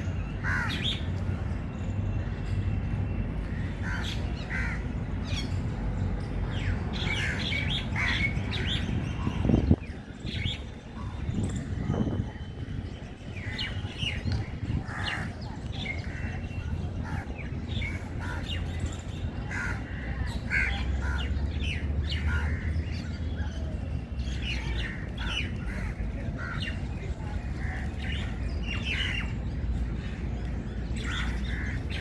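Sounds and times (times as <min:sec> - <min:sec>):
birds chirping and calling: 0:00.0 - 0:01.3, 0:03.4 - 0:32.0.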